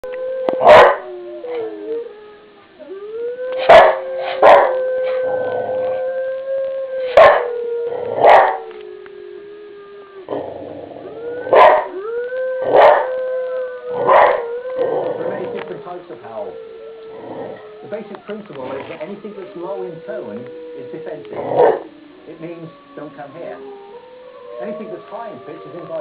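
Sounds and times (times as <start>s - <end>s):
long low howls: 0.0s - 26.0s.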